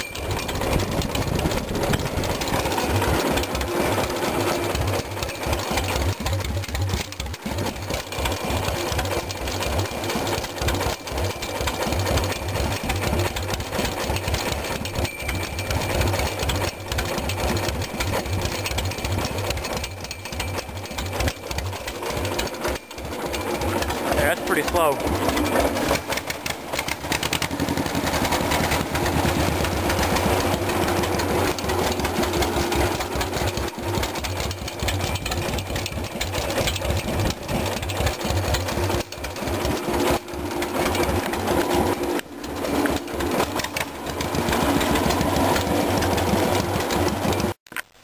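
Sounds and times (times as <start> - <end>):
tractor engine idling: 0.0 - 47.6.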